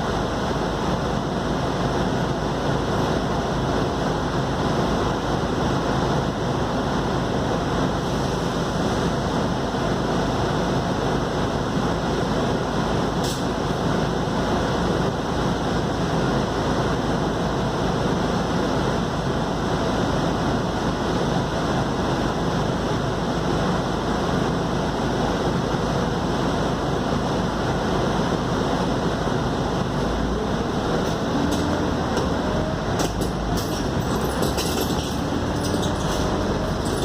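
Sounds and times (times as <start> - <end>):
bus diesel engine drone: 0.0 - 37.0
road and tyre noise: 0.0 - 37.0.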